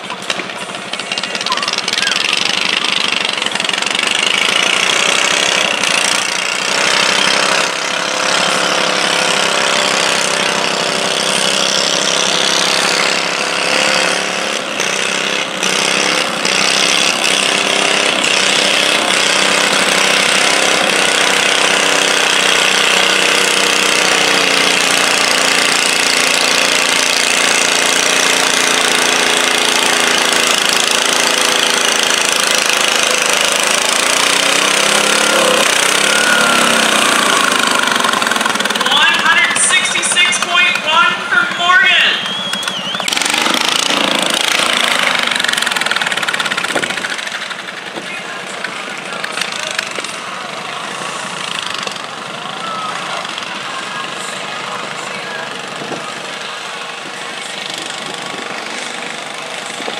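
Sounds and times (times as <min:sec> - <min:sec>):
garden tractor engine under load: 0:00.0 - 0:59.9.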